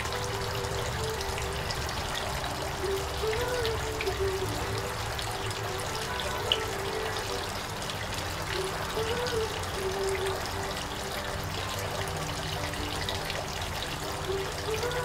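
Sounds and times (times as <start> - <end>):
fountain water bubbling and running: 0.0 - 15.0.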